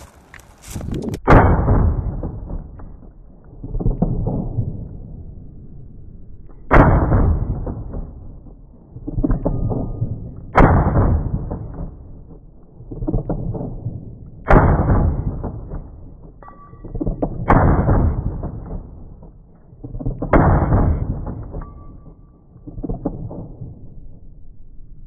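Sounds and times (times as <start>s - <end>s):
slowed-down gunshots: 1.0s - 24.6s.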